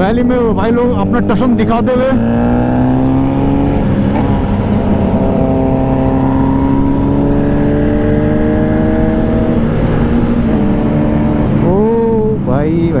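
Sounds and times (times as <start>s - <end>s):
motorcycle engine accelerating: 0.0s - 13.0s
road rumble: 0.0s - 13.0s
wind: 0.0s - 13.0s.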